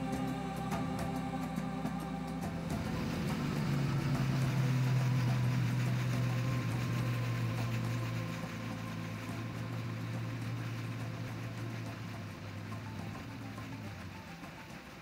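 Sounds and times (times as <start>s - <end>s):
outboard motor running: 0.0s - 15.0s
water noise: 0.0s - 15.0s.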